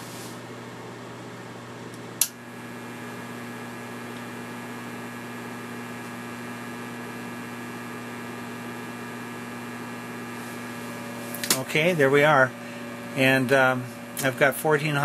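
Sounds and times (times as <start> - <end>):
low mains hum: 0.0 - 15.0.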